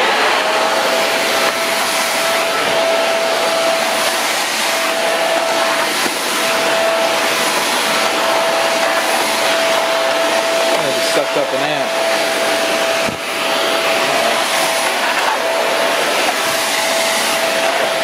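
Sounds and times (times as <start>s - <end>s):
floor brush on hard floor: 0.0s - 18.0s
vacuum cleaner running: 0.0s - 18.0s.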